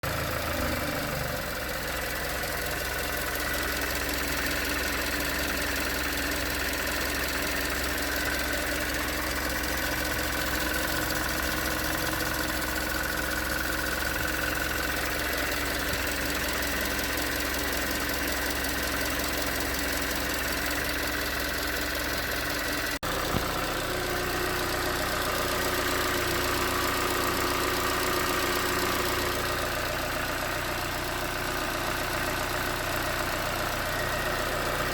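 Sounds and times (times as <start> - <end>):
car engine idling with knocking: 0.0 - 34.9.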